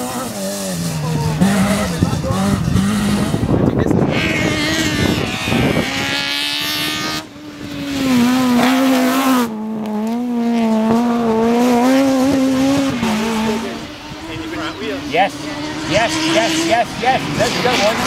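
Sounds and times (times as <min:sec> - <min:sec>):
race car engines at high revs: 0:00.0 - 0:18.0.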